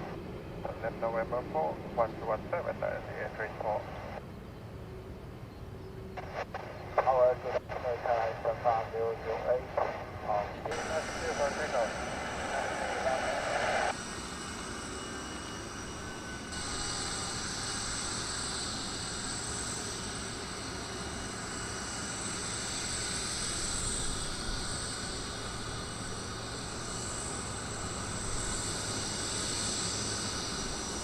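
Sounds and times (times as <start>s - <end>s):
jet engines rushing: 0.0s - 4.2s, 6.1s - 31.0s
high-pitched whine: 6.1s - 31.0s.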